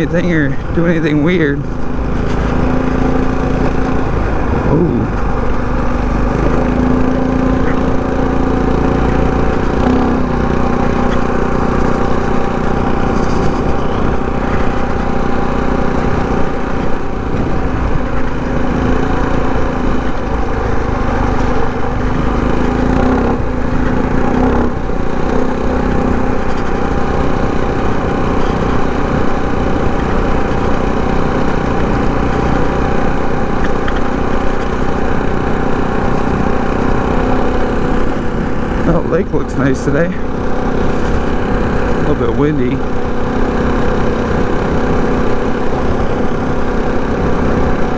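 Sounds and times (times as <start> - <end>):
minibike engine running: 0.0 - 47.9.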